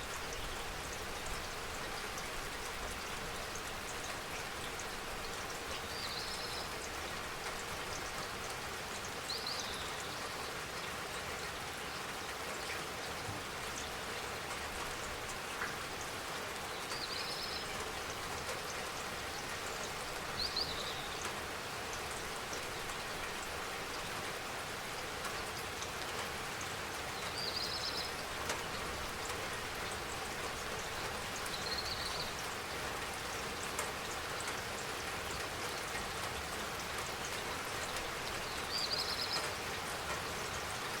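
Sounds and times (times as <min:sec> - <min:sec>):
rain pattering on surfaces: 0:00.0 - 0:41.0.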